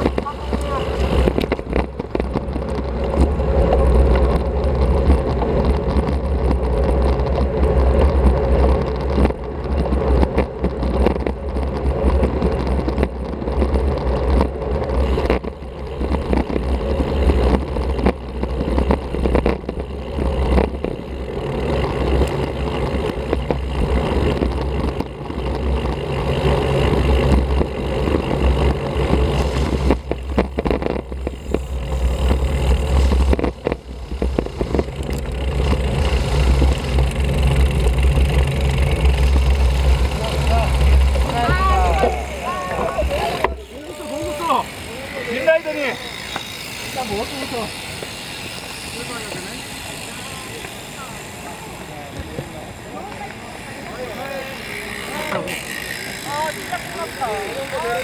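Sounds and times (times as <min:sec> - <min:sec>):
bicycle tyre and road noise: 0:00.0 - 0:58.0.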